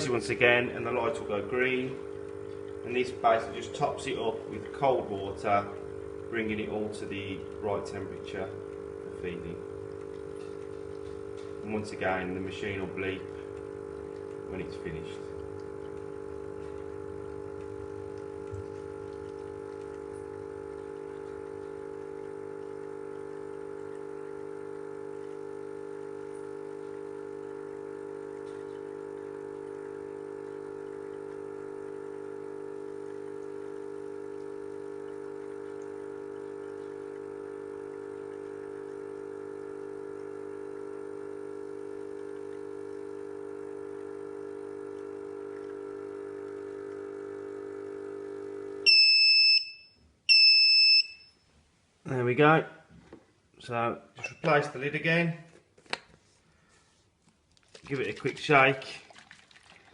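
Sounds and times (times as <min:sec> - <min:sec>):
formula machine humming: 0:00.0 - 0:49.6
water pump filling bottle: 0:00.0 - 0:51.2, 0:54.1 - 0:59.9.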